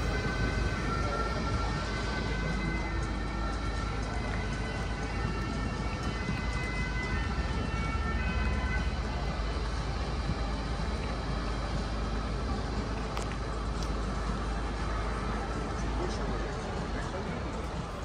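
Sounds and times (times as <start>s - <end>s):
faint distant siren: 0.0s - 18.0s
low outdoor rumble: 0.0s - 18.0s.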